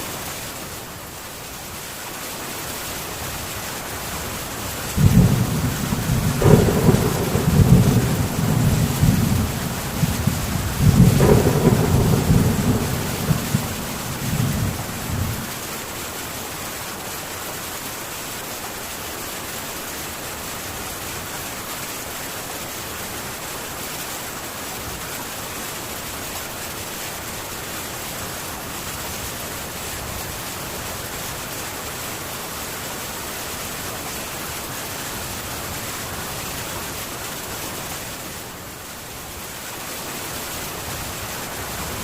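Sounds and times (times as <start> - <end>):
heavy rain on a tin roof: 0.0 - 42.0.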